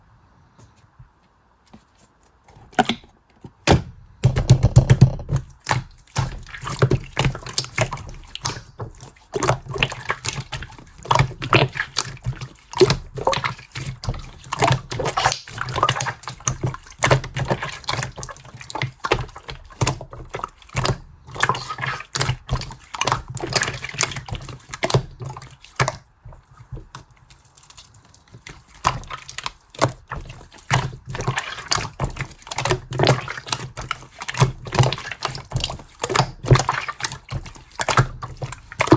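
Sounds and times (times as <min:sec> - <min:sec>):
slime squished by hand: 0:04.2 - 0:38.9.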